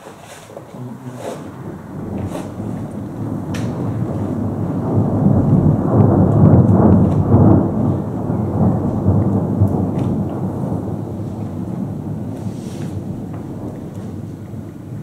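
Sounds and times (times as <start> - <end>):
rain falling: 0.0 - 15.0
rolling thunder: 1.4 - 15.0.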